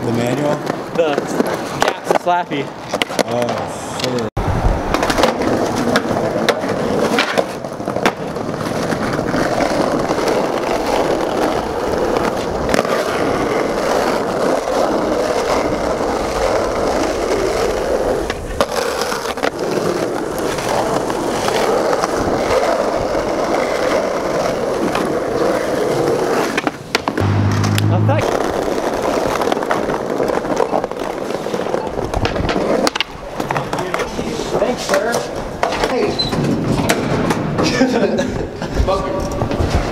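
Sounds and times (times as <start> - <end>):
skateboard clacking on ground: 0.0 - 37.9, 38.6 - 39.9
skateboard wheels rolling: 0.0 - 39.9.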